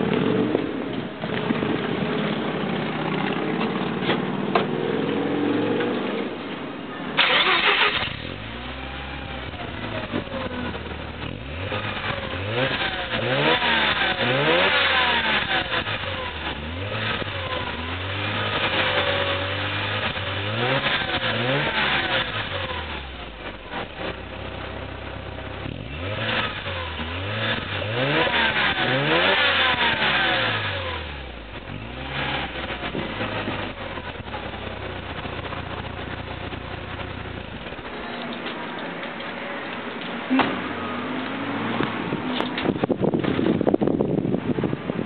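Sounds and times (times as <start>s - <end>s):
rotary engine idling and revving: 0.0s - 6.6s, 7.2s - 45.0s.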